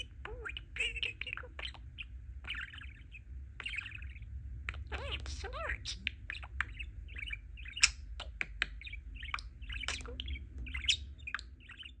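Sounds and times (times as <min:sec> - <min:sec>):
budgerigar chattering: 0:00.0 - 0:12.0.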